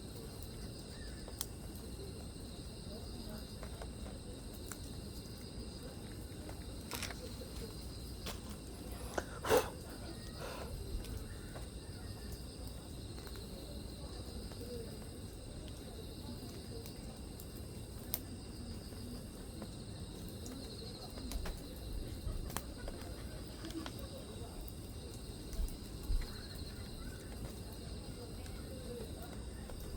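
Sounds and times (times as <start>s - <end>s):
insects trilling: 0.0s - 29.9s
fire popping: 3.5s - 29.9s.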